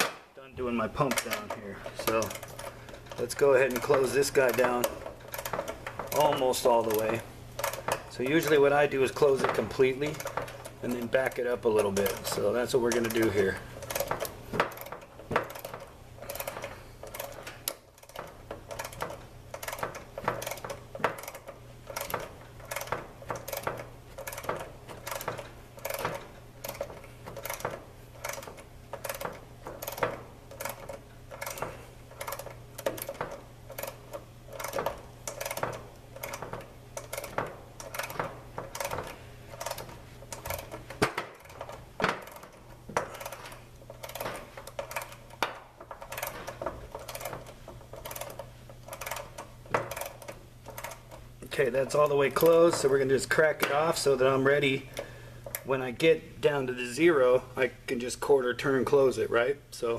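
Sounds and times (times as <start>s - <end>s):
ratcheting wrench clicking: 1.0s - 54.1s.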